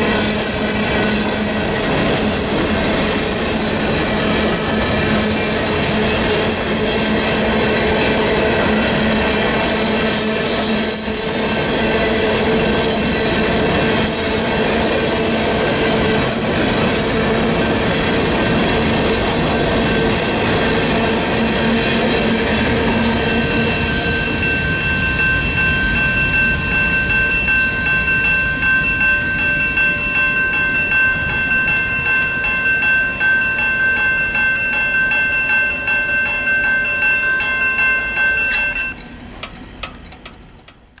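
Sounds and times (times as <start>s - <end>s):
railroad crossing bell ringing: 0.0s - 39.2s
freight cars rumbling over rails: 0.0s - 41.0s.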